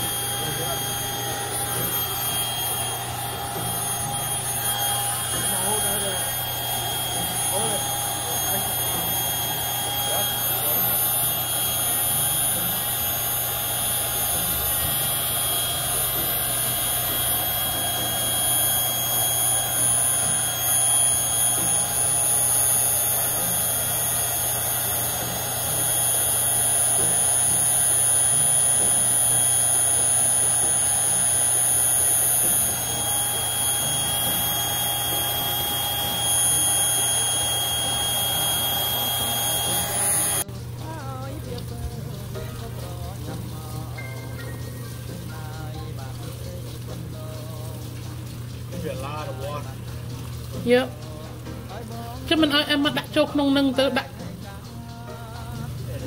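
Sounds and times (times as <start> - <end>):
electric air pump whining: 0.0 - 56.0.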